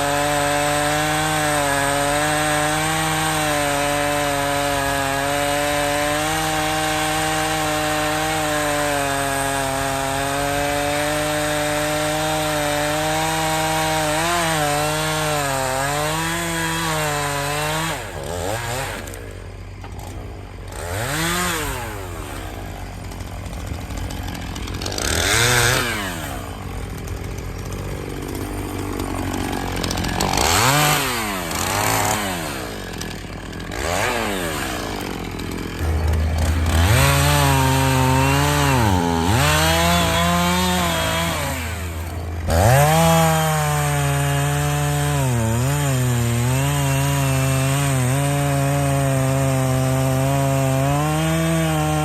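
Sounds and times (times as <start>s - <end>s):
chainsaw revving and cutting wood: 0.0s - 52.0s.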